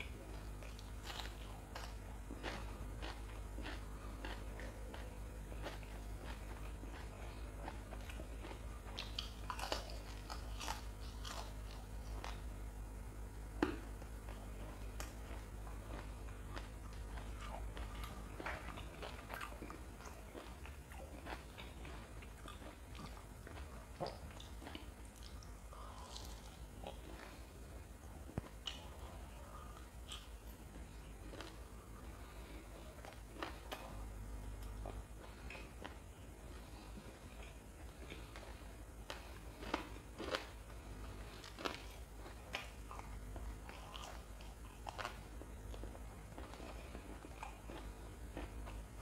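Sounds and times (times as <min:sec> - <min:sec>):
crunchy chewing: 0:00.0 - 0:49.0
low hum: 0:00.0 - 0:49.0.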